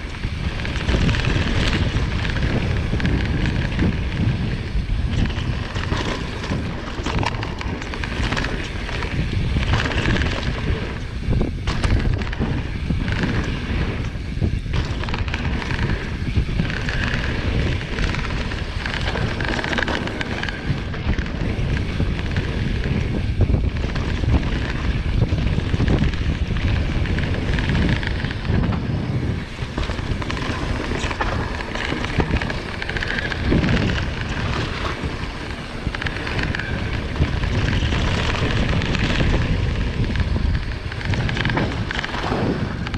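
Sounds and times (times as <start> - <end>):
bike knocks and clatter: 0.0 - 42.9
bike tyres rolling on dirt: 0.0 - 42.9
wind on microphone: 0.0 - 42.9.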